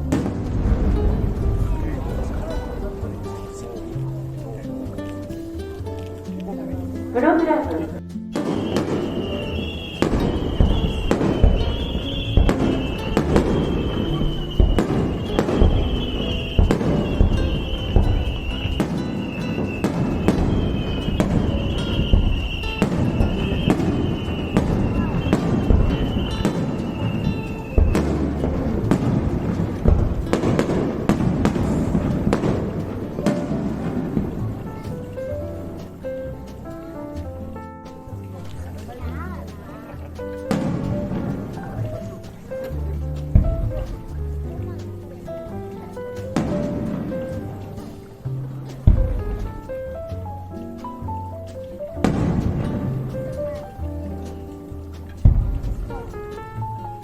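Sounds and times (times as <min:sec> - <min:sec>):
fireworks bangs and crackles: 0:00.0 - 0:04.6, 0:08.4 - 0:36.7, 0:40.5 - 0:44.9, 0:46.3 - 0:50.9, 0:52.0 - 0:56.7.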